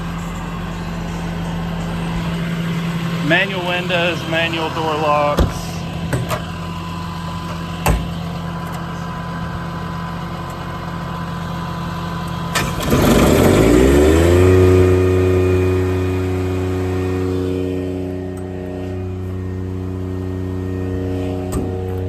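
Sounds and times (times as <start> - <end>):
engine idling: 0.0 - 22.0
machine whine and hum: 0.0 - 22.0.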